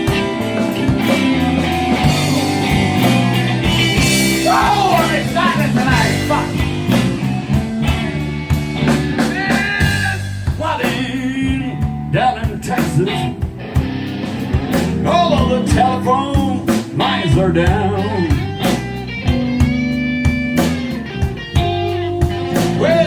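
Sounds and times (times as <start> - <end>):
blues band playing: 0.0 - 23.0
electric guitar lead: 0.0 - 23.0.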